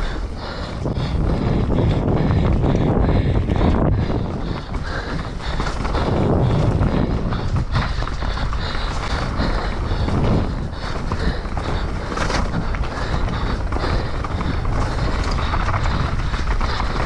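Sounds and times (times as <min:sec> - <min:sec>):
bike frame rattling: 0:00.0 - 0:17.0
wind buffeting microphone: 0:00.0 - 0:17.0.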